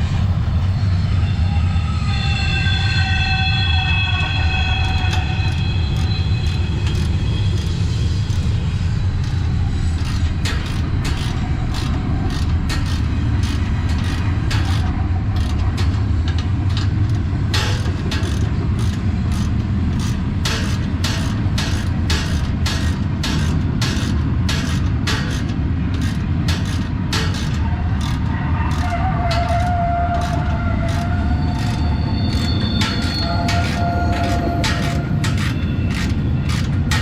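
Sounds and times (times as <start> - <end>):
train rumbling past: 0.0 - 37.0
metallic clacks of train wheels: 2.4 - 37.0.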